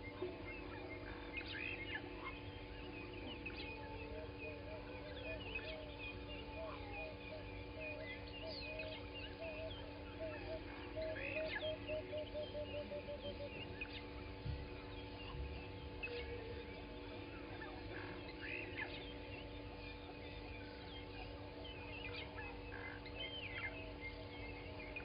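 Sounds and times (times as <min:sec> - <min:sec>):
birds chirping and whistling: 0:00.0 - 0:25.0
steady low hum: 0:00.0 - 0:25.0.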